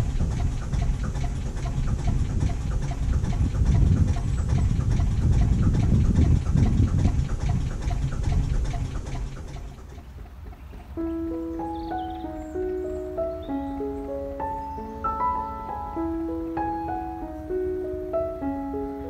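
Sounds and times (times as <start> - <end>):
diesel engine chugging: 0.0 - 19.0
tuned percussion music: 0.0 - 19.0.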